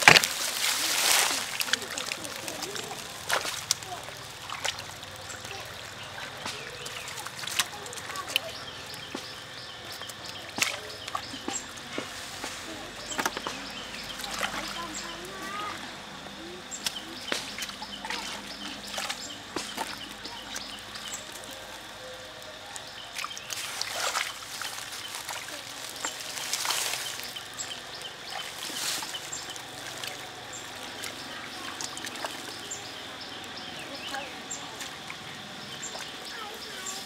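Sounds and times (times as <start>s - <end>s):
hands sloshing in muddy water: 0.0s - 37.0s
mud squelching: 0.0s - 37.0s
water dripping: 0.0s - 37.0s
water splashing: 0.0s - 37.0s.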